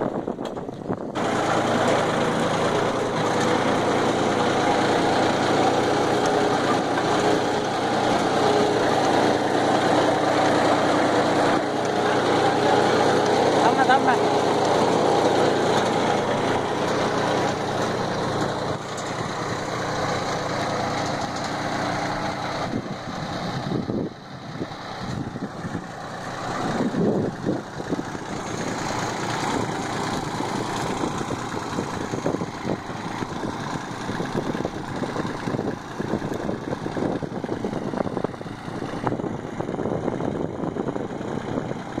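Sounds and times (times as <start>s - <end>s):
diesel tractor engine running: 0.0s - 42.0s.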